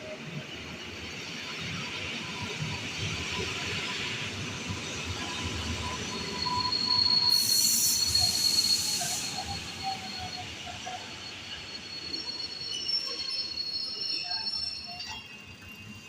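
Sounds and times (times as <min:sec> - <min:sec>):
train wheels squealing: 0:00.0 - 0:16.0.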